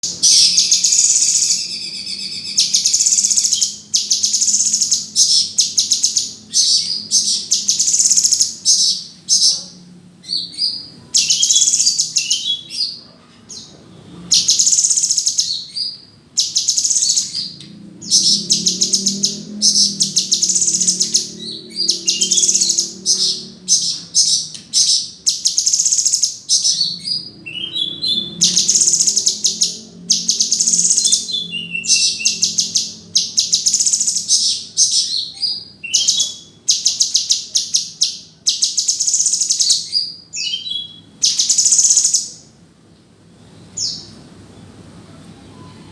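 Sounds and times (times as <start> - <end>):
bird singing rapid rattling notes: 0.0 - 9.8, 10.5 - 13.0, 14.3 - 42.4.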